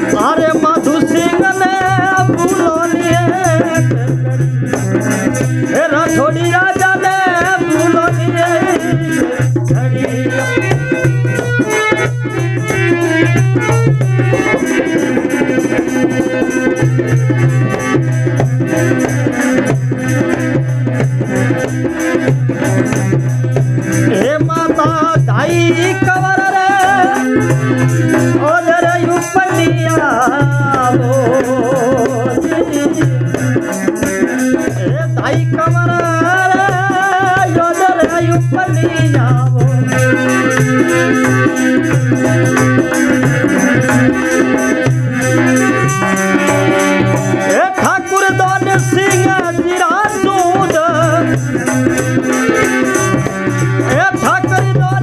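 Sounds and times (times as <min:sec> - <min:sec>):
hand drum playing: 0:00.0 - 0:55.0.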